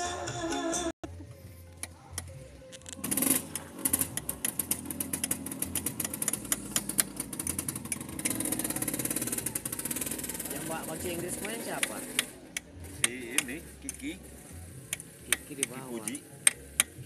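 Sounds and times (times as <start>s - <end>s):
two-stroke motorcycle engine: 3.0s - 17.0s.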